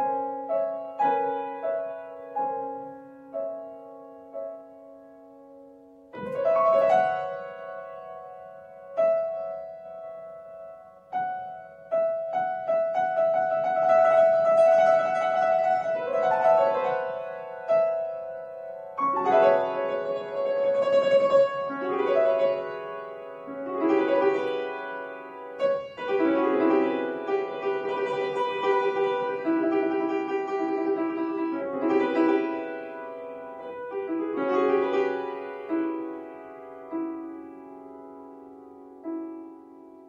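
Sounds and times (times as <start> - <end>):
grand piano playing: 0.0 - 40.0.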